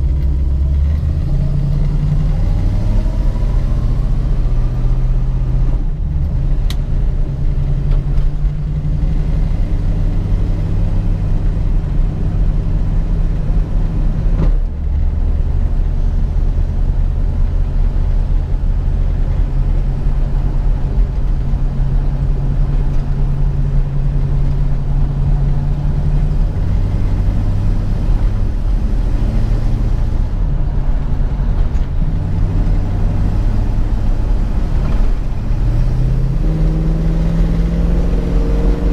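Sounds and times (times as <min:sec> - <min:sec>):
car engine running while driving: 0:00.0 - 0:38.9.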